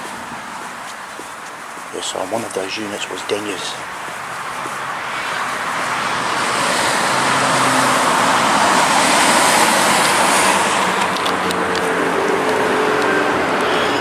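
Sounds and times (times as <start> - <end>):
passing cars on road: 0.0 - 14.0.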